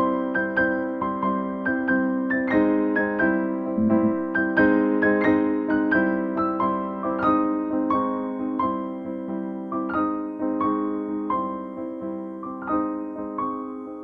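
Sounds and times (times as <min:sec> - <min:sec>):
electric piano melody: 0:00.0 - 0:14.0.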